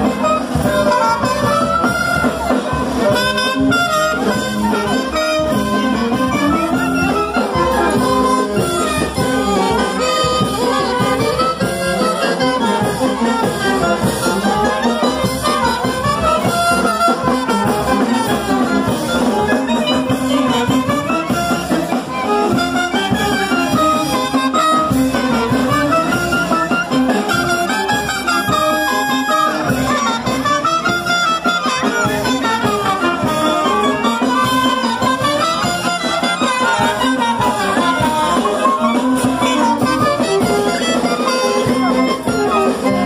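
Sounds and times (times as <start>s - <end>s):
brass band playing dance music: 0.0s - 43.0s.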